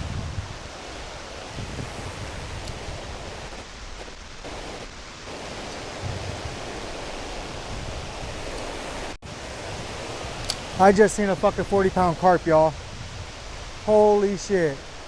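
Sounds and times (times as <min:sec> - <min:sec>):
river water pouring over dam: 0:00.0 - 0:15.0
wind buffeting microphone: 0:00.0 - 0:15.0.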